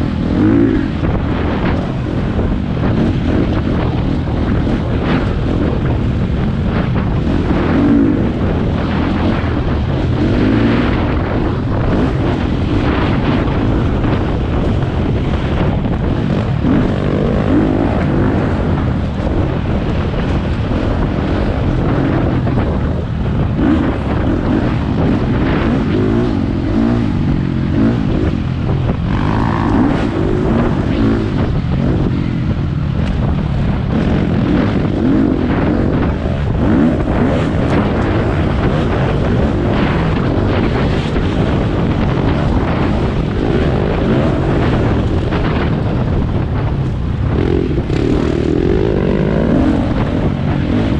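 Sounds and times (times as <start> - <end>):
dirt bike engine revving: 0.0 - 50.9
wind buffeting microphone: 0.0 - 50.9.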